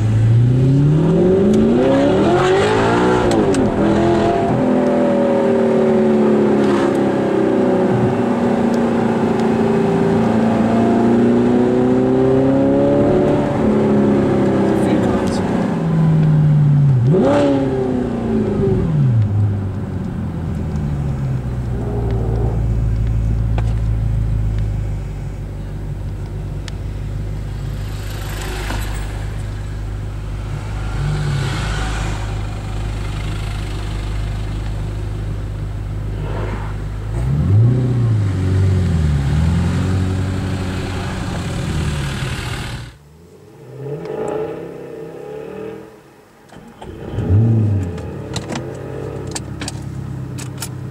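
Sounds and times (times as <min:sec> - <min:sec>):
car engine revving: 0:00.0 - 0:50.7.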